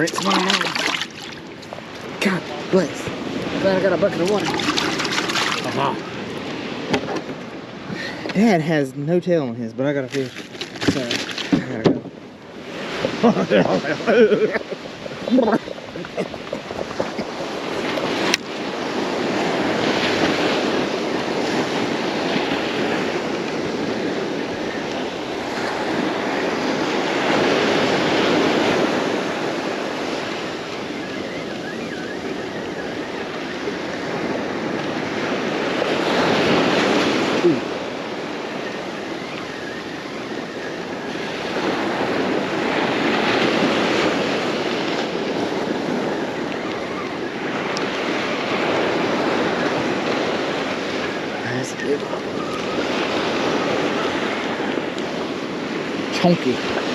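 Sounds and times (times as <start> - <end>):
ocean surf breaking: 0.0 - 56.9.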